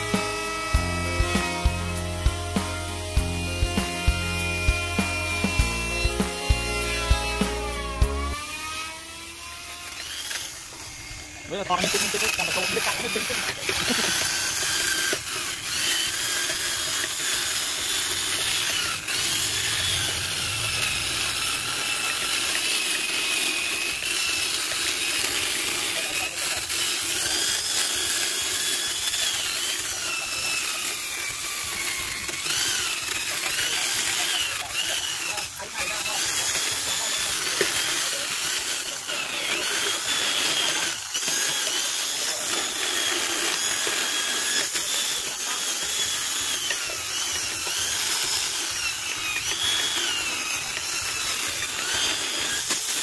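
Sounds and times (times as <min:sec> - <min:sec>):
rotary tool whining against wood: 0:00.0 - 0:53.0.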